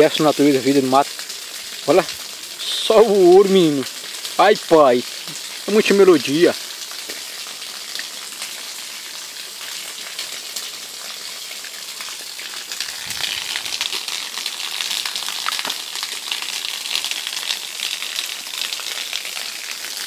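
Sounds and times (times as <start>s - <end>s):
water splashing onto ground: 0.0s - 20.0s.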